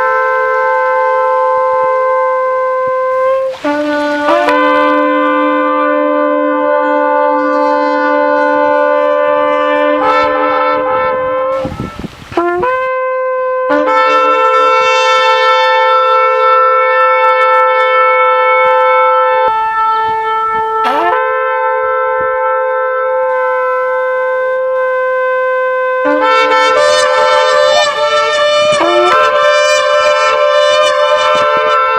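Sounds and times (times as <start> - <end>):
ram's horn blasts: 0.0 - 31.9.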